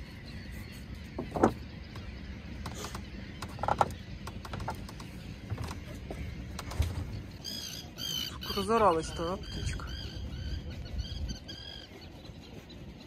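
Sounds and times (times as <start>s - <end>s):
motorboat engine rumble: 0.0s - 13.0s.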